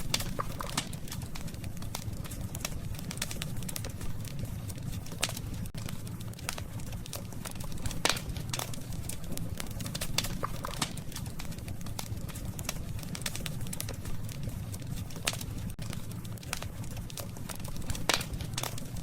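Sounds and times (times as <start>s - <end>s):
campfire crackling and popping: 0.0s - 19.0s
low rumble of burning: 0.0s - 19.0s.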